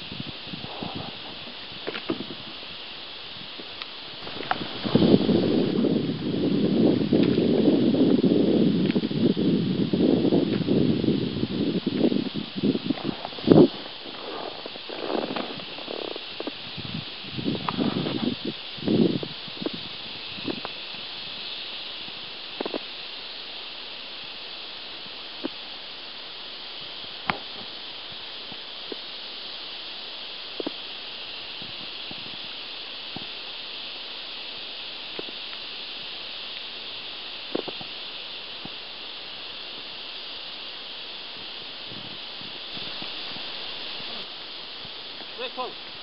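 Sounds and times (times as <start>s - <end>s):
river hiss: 0.0s - 46.0s.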